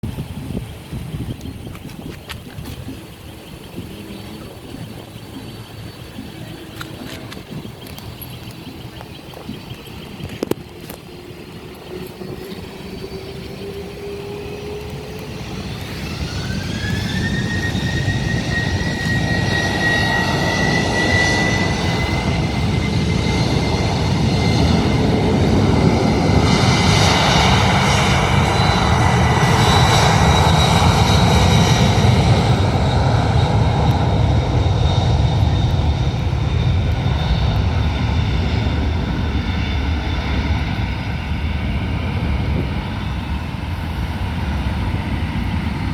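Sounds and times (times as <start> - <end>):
jet engine roar: 0.0 - 45.9
jet engine whine: 0.0 - 45.9.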